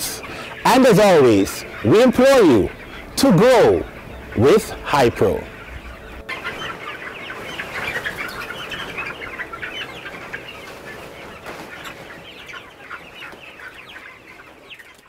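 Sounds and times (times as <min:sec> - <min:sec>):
chickens calling: 0:00.0 - 0:15.0.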